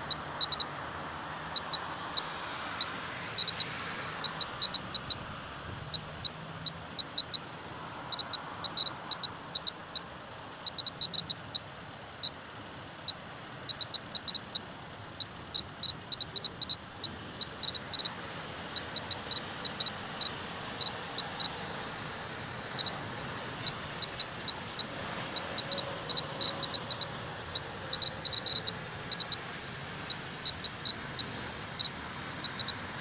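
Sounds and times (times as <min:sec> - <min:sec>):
radiation meter beeps: 0:00.0 - 0:00.8, 0:01.4 - 0:22.0, 0:22.6 - 0:33.0.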